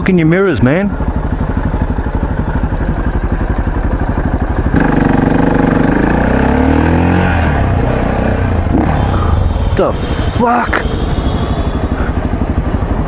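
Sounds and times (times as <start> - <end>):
motorcycle engine accelerating: 0.0 - 9.7, 10.8 - 13.0.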